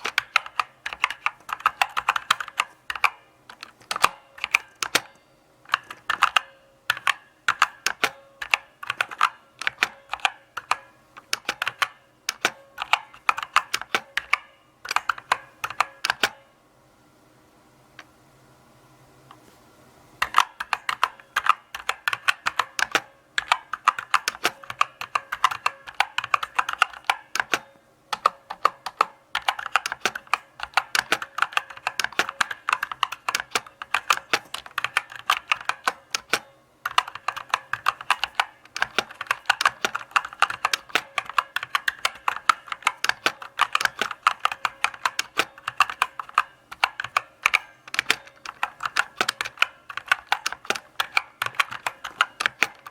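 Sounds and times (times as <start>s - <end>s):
mechanical keyboard key clicks: 0.0s - 16.4s, 20.2s - 52.9s.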